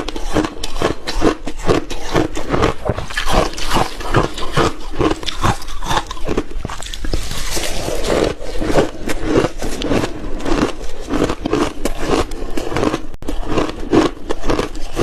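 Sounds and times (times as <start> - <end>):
crunching ice in the mouth: 0.0 - 15.0.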